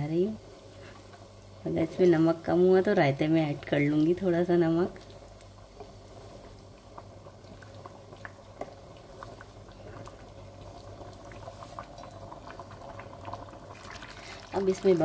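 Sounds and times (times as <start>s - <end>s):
pot bubbling with pops: 0.0s - 15.0s.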